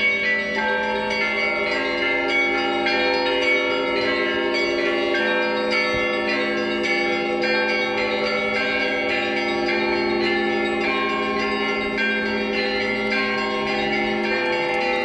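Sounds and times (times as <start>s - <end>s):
church bells pealing: 0.0s - 15.0s.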